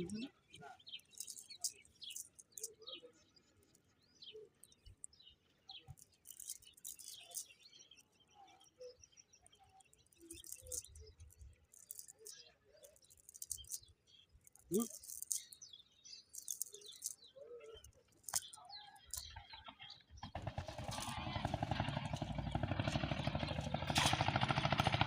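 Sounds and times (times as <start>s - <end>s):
faint small birds chirping: 0.0s - 24.9s.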